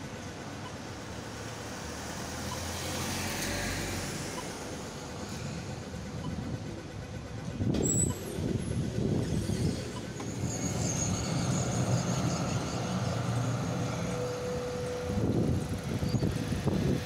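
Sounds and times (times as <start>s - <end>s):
tram humming: 0.0s - 17.0s
truck driving by: 1.0s - 17.0s.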